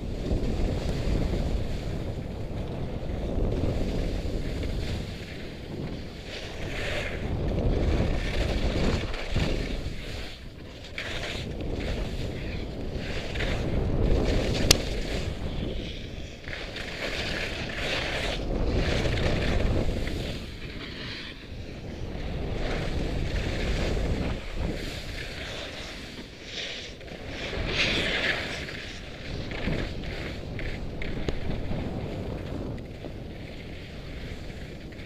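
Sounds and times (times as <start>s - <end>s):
skis scraping on snow: 0.0s - 35.0s
wind rushing over microphone: 0.0s - 35.0s.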